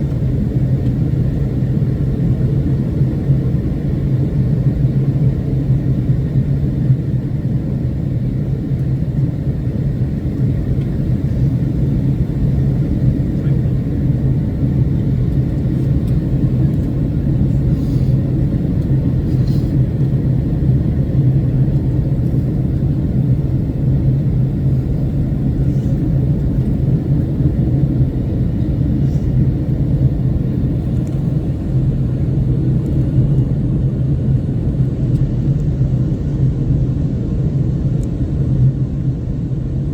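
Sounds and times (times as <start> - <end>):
airplane engines rumbling in flight: 0.0 - 39.9.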